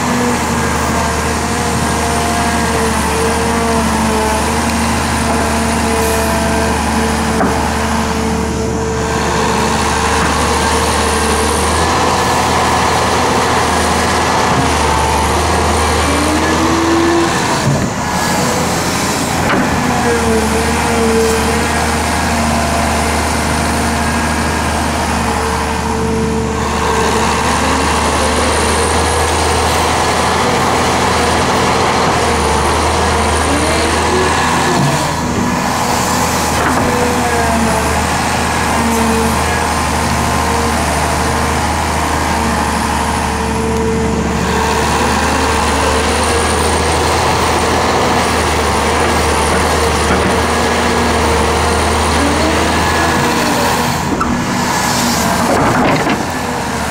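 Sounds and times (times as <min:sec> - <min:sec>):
excavator diesel engine droning: 0:00.0 - 0:56.9.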